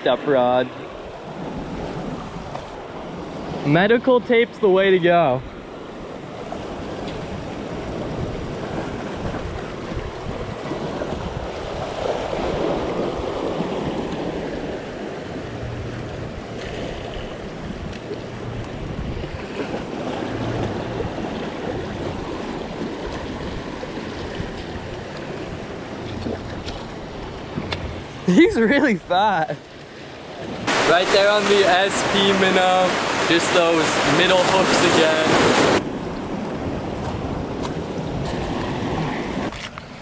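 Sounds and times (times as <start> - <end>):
ocean surf among boulders: 0.0 - 40.0
wind buffeting microphone: 5.4 - 29.0, 30.3 - 40.0.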